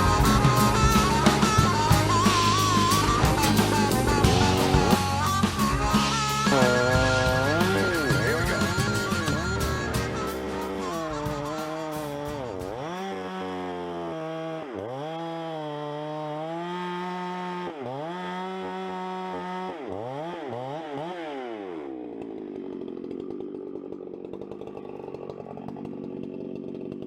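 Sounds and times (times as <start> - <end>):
chainsaw running at high revs: 0.0 - 27.0.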